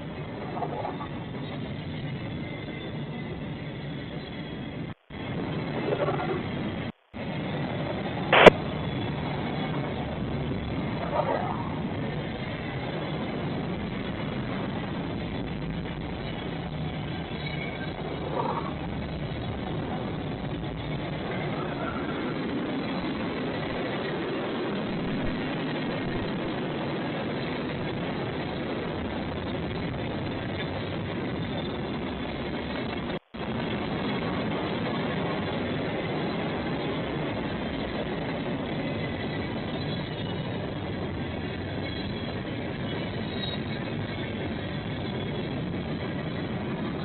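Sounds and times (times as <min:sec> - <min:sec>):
train passing: 0:00.0 - 0:47.0.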